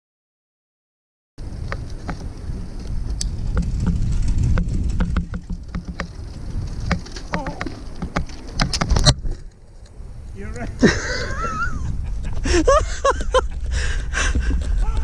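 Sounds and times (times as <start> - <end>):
bike rattling and clicking: 1.4 - 15.0
tyres on bumpy dirt trail: 1.4 - 15.0
wind rumbling on microphone: 1.4 - 15.0.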